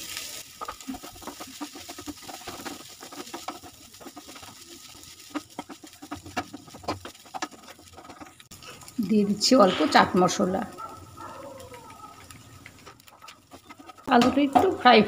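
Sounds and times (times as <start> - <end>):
wooden spatula scraping frying pan: 0.0 - 15.0.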